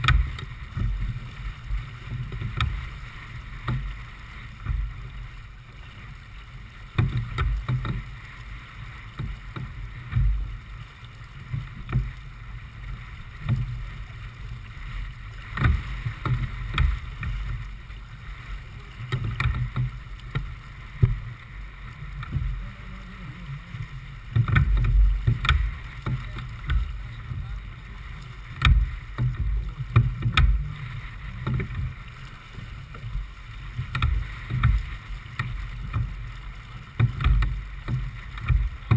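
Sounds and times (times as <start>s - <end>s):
water rushing past hull: 0.0s - 38.9s
waves slapping a boat hull: 0.0s - 38.9s.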